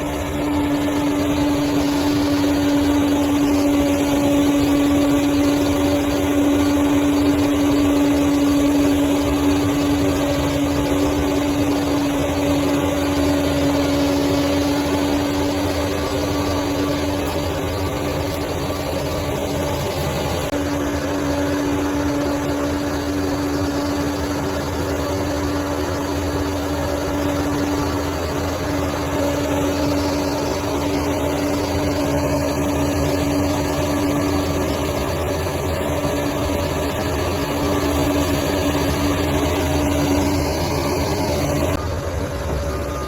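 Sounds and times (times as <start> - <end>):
bulldozer diesel engine running: 0.0 - 43.0
steady whining tone: 0.0 - 43.0.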